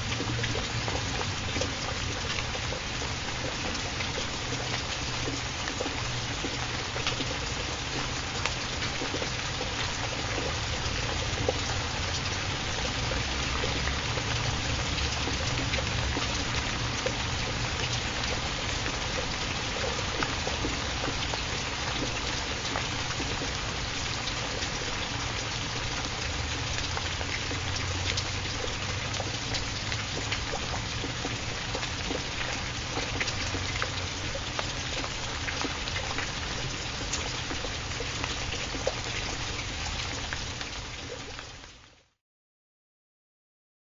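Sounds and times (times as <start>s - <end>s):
steady rain falling: 0.0s - 42.2s.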